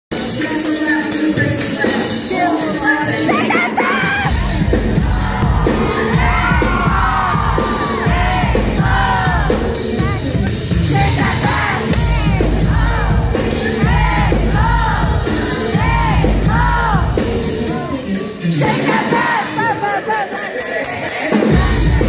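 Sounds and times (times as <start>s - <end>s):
live pop concert music: 0.1s - 22.0s
audience yelling and cheering: 3.1s - 22.0s
heavy bass beat: 3.4s - 22.0s.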